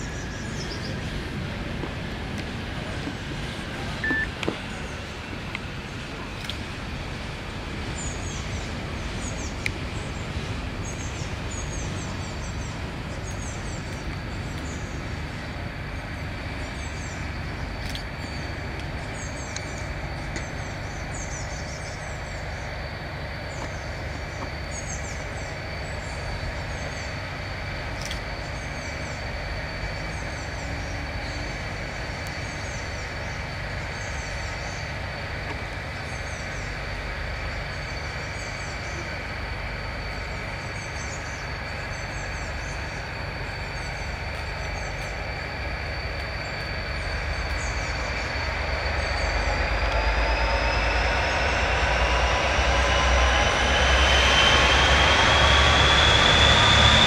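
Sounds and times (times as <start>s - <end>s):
diesel locomotive engines rumbling: 0.0s - 57.0s.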